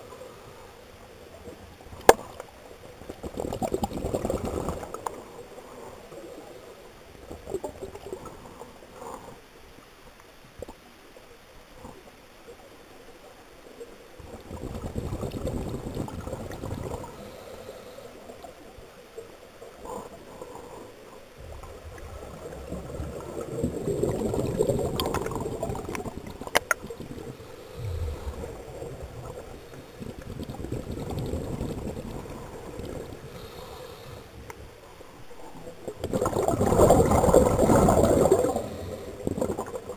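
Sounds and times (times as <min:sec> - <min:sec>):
scuba bubbles gurgling underwater: 0:01.2 - 0:08.7, 0:13.8 - 0:39.9.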